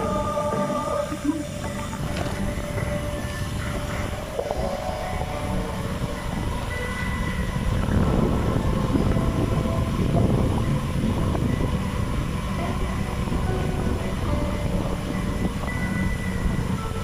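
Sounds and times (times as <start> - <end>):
bicycle rolling noise: 0.0 - 17.0
wind buffeting microphone: 0.0 - 17.0.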